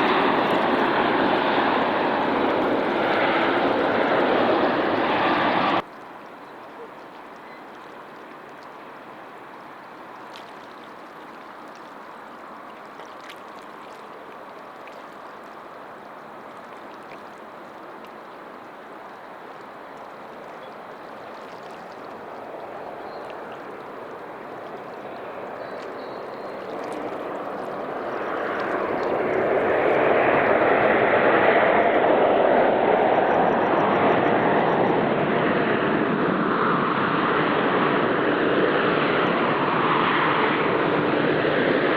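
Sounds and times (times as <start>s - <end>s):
jet airliner engine rushing: 0.0s - 11.6s, 14.0s - 41.9s.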